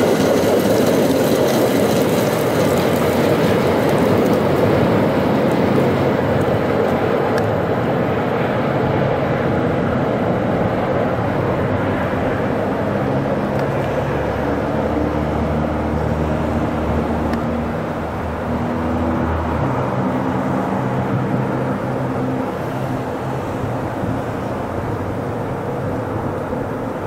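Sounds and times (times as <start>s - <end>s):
diesel train engine drone: 0.0s - 27.0s.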